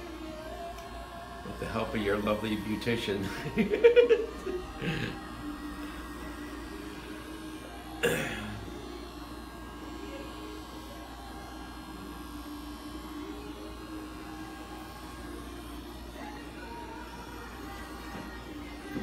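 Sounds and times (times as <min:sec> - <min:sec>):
electric hair clippers buzzing: 0:00.0 - 0:19.0.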